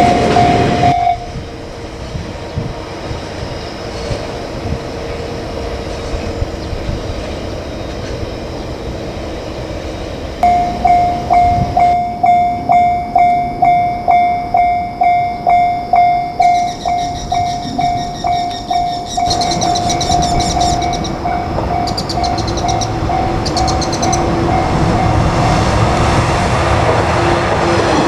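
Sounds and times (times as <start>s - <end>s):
level-crossing warning bell ringing: 0.0s - 26.4s
train rumbling: 0.0s - 28.0s.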